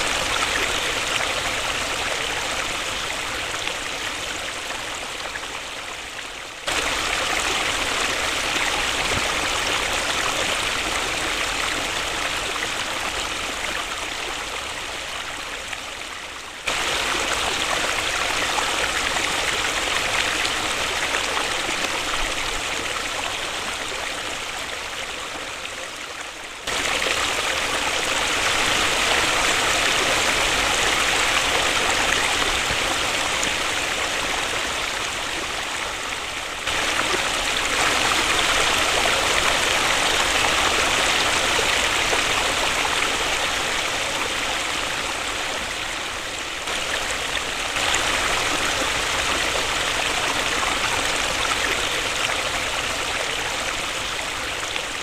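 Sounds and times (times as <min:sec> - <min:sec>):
waterfall rushing: 0:06.6 - 0:15.0, 0:16.6 - 0:24.9, 0:26.7 - 0:55.0.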